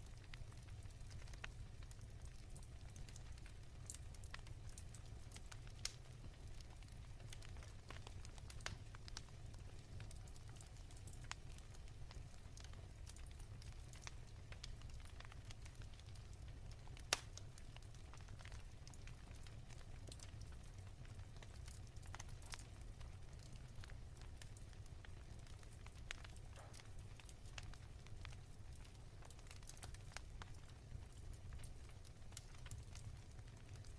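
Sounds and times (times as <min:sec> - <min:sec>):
low fire rumble: 0:00.0 - 0:33.9
wood fire crackling: 0:00.0 - 0:33.9.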